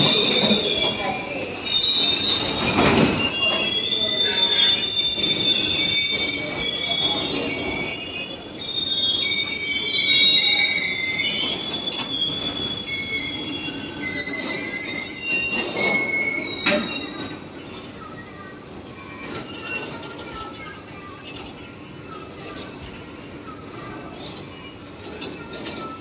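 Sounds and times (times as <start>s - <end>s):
train wheels squealing: 0.0s - 21.3s, 22.0s - 26.0s.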